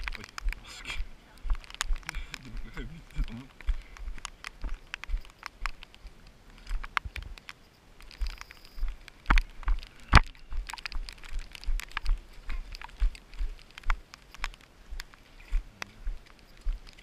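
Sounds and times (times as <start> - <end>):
feet crunching on gravel: 0.0 - 7.4, 8.0 - 17.0
running footsteps on rocky trail: 0.0 - 17.0.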